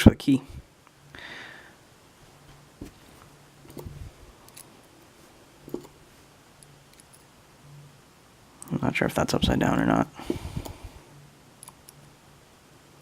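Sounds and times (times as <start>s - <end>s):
low faint hum: 0.0s - 13.0s.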